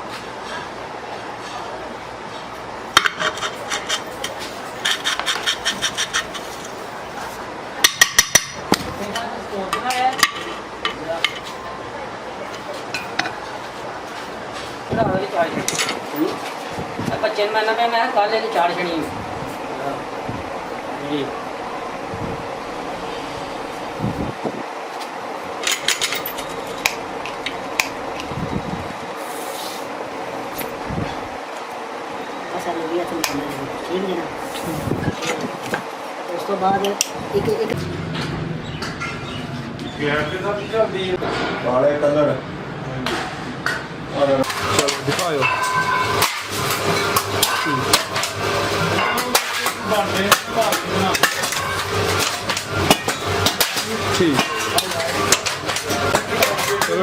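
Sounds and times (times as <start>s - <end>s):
workshop noise: 0.0s - 57.0s.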